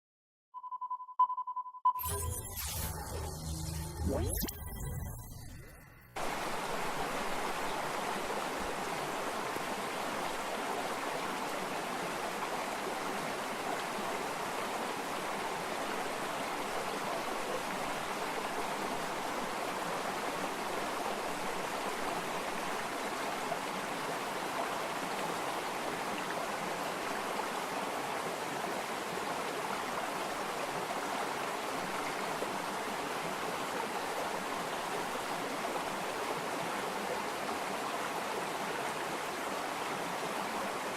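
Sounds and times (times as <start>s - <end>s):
water flowing in a stream: 6.2s - 40.9s.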